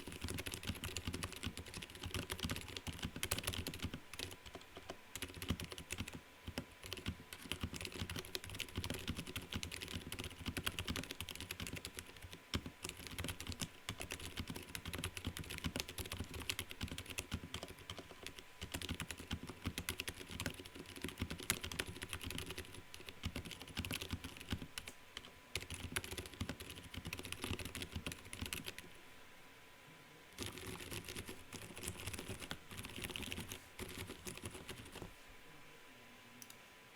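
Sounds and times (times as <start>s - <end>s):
mechanical keyboard typing: 0.0s - 28.8s, 30.4s - 35.1s.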